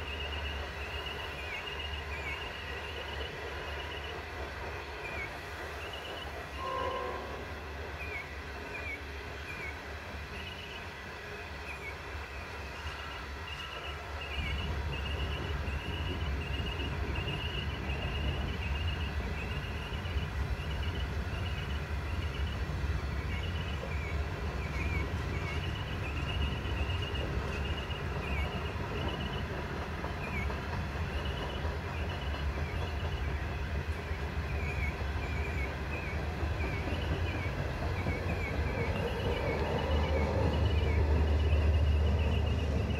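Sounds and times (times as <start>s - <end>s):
low rumble of wheels on rail: 0.0s - 42.9s.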